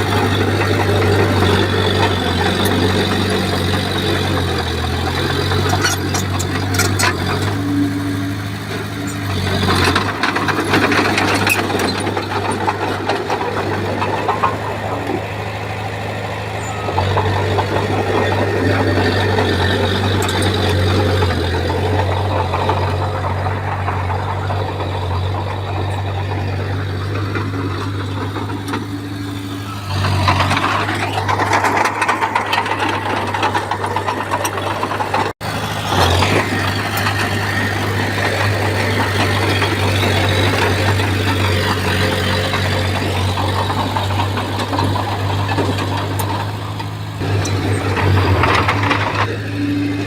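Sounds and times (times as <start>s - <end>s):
bulldozer diesel engine running: 0.0s - 50.0s
metal clanks and rattles: 0.0s - 50.0s.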